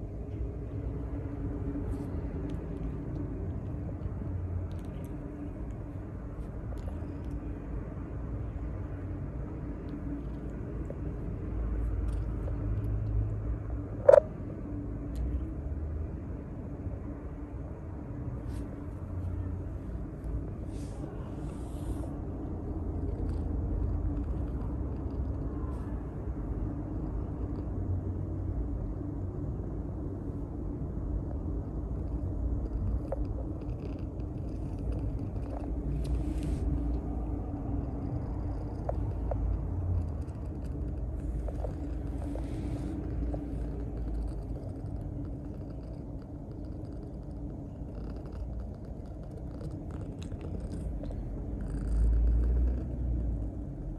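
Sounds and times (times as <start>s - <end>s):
cat purring: 0.0s - 14.3s, 18.0s - 53.9s.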